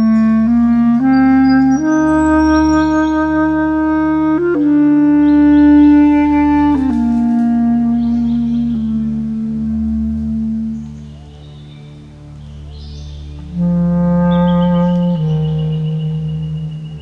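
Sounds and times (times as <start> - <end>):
bass clarinet melody: 0.0 - 17.0.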